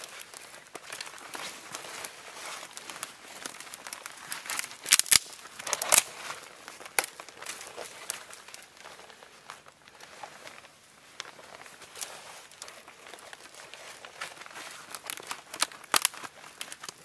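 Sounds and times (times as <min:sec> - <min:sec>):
twigs rustling: 0:00.0 - 0:17.0
twigs snapping: 0:00.0 - 0:17.0.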